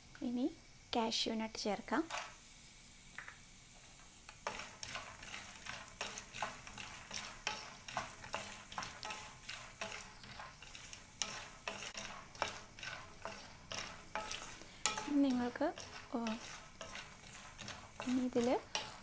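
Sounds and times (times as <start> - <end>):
nuts frying in oil: 0.0 - 19.0
spatula scraping nuts in pan: 1.8 - 2.5, 3.8 - 19.0.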